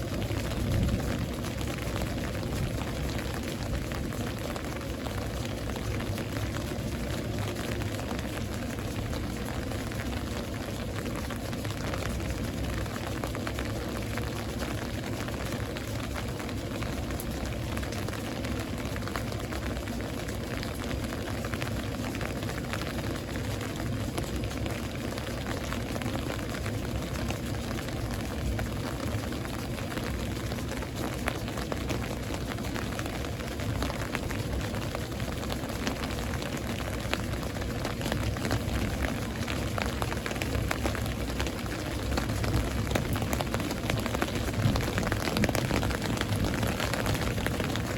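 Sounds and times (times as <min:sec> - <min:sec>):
rain drops pattering: 0:00.0 - 0:47.9.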